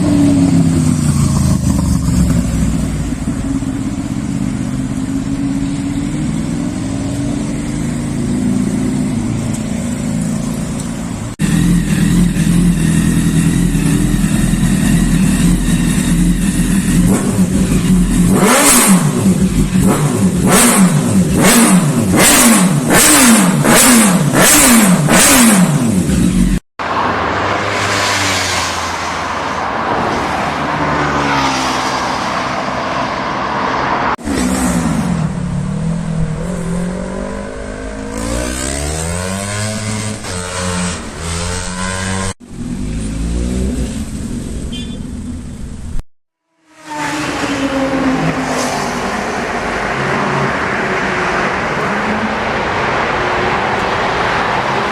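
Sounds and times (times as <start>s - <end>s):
motorcycle engines revving: 0.0s - 46.0s.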